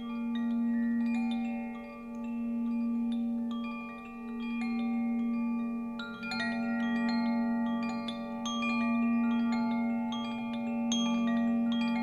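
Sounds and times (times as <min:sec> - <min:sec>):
bamboo wind chime ringing: 0:00.0 - 0:12.0.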